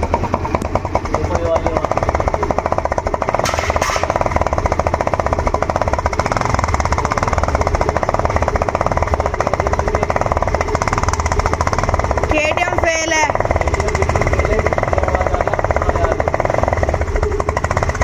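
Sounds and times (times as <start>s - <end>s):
scooter engine putter: 0.0s - 18.0s.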